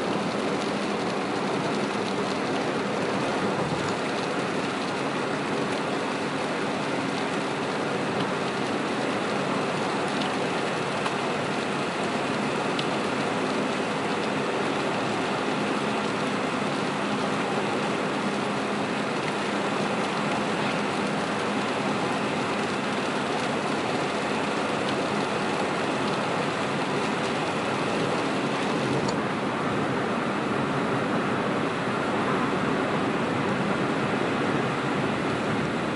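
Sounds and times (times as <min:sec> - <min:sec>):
heavy rain: 0:00.0 - 0:35.9
tyres on wet road: 0:00.0 - 0:35.9.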